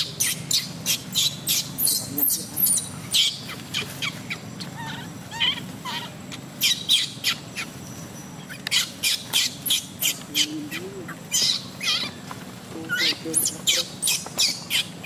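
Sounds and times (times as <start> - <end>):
baby monkey squealing: 0.0 - 12.2, 12.8 - 15.0.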